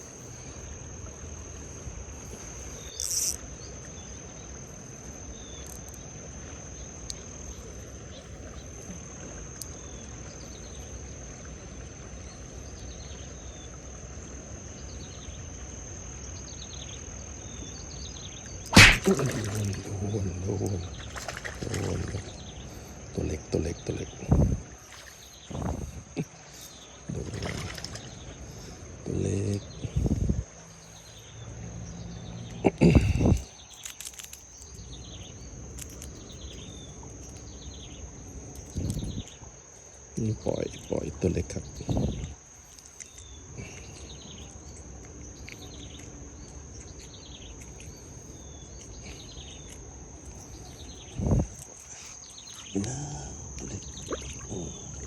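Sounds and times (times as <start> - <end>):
insect drone: 0.0 - 55.0.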